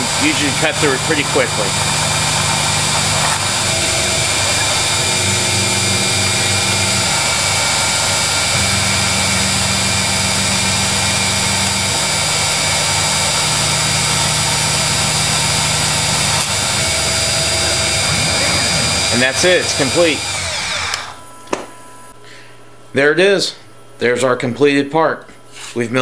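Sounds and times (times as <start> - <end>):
milling spindle whine and cutting: 0.0 - 21.4
low machine hum: 0.0 - 24.6.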